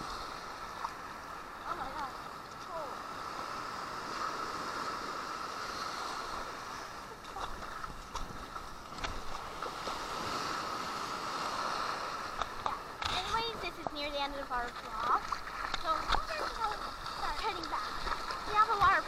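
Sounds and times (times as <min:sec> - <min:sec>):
muffled ocean surf: 0:00.0 - 0:19.0.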